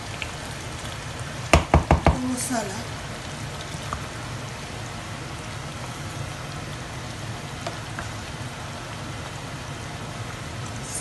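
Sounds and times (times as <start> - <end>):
stew sizzling and bubbling: 0.0 - 11.0.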